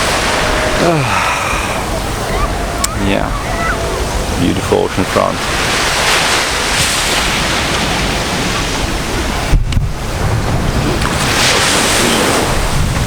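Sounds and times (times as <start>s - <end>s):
ocean surf on beach: 0.0s - 13.0s
wind buffeting microphone: 0.0s - 13.0s.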